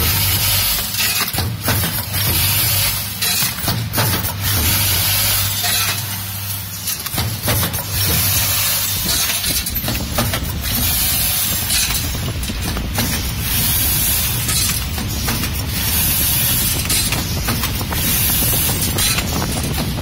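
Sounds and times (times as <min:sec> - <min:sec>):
machine humming and rattling: 0:00.0 - 0:20.0.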